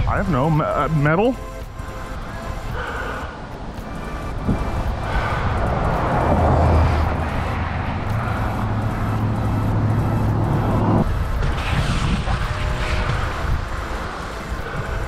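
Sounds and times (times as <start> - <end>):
low engine hum: 0.0 - 15.0
vehicle passing by: 1.4 - 15.0.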